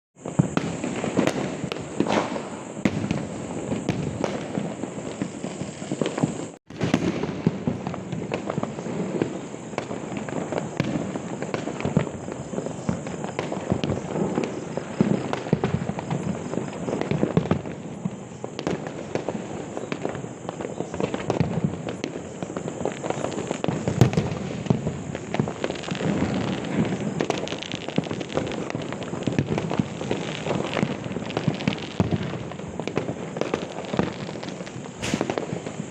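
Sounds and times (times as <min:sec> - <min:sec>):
firecrackers popping: 0:00.2 - 0:35.9.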